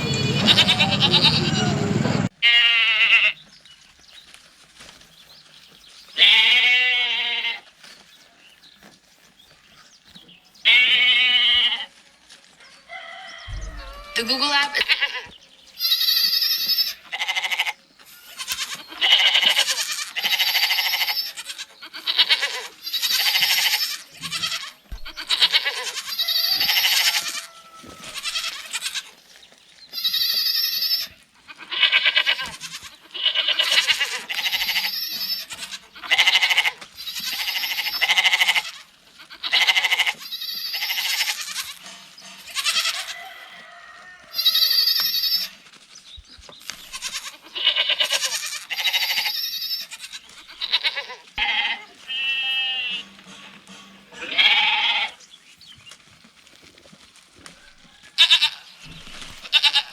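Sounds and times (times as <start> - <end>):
goats bleating: 0.0 - 3.4, 6.2 - 7.8, 10.6 - 12.0, 13.2 - 45.8, 46.7 - 55.2, 57.4 - 59.9.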